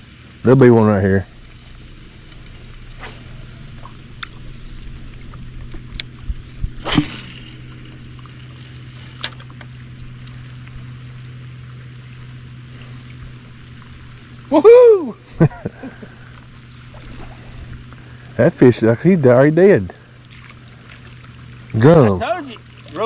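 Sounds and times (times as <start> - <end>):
boat engine hum: 0.0 - 23.0.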